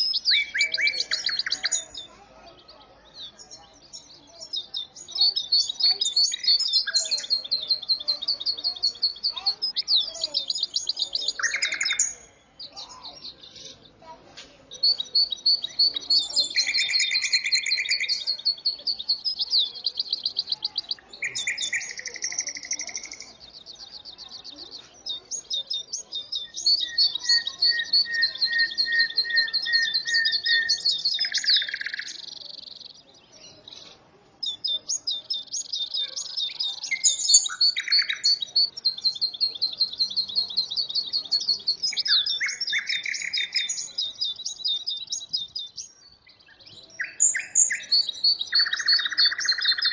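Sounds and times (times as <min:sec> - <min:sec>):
finch twittering song: 0:00.0 - 0:49.9.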